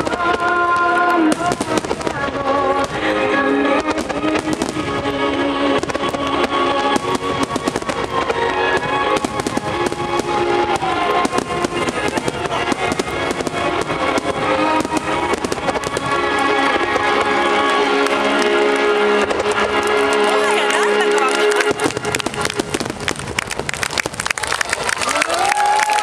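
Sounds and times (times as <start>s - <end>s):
loud music with sustained notes: 0.0s - 23.0s
fireworks bursting and crackling: 0.0s - 26.0s.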